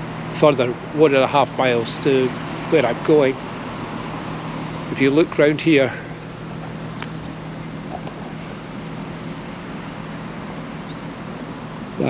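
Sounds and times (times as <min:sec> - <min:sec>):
engine idling hum: 0:00.0 - 0:12.0
outdoor background noise: 0:00.0 - 0:12.0.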